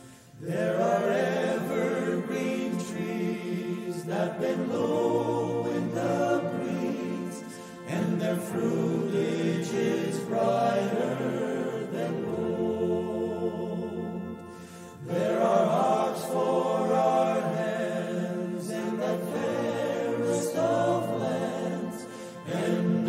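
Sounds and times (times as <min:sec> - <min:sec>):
male choir singing: 0:00.0 - 0:23.0.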